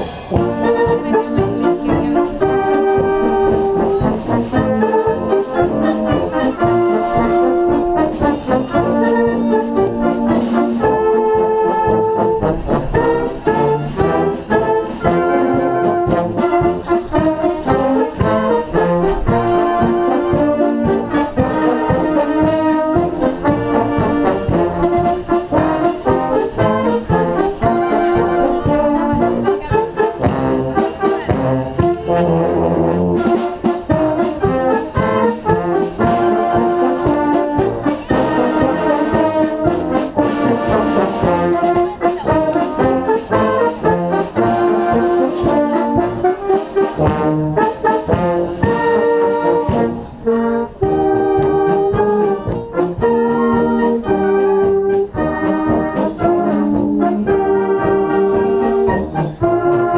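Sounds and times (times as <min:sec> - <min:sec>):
brass band playing: 0:00.0 - 0:59.9.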